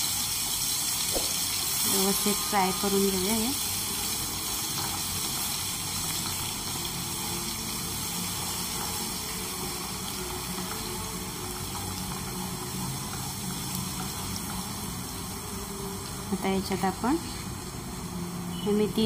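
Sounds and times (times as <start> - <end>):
paste sizzling in hot oil: 0.0 - 18.9.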